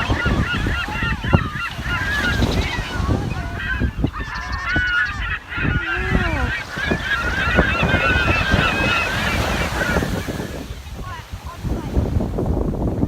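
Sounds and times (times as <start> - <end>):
flock of birds calling: 0.0 - 12.1
wind rumbling on microphone: 0.0 - 13.0.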